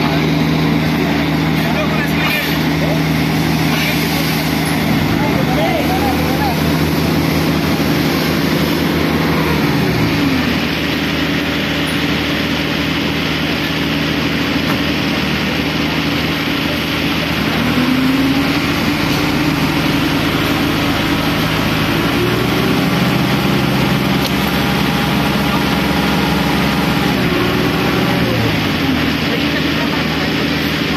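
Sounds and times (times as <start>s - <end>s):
heavy engine running: 0.0s - 30.9s.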